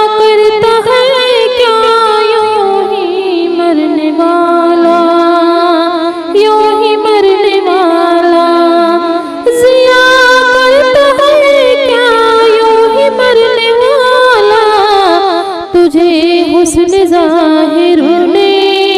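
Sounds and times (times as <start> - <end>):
music: 0.0 - 18.9.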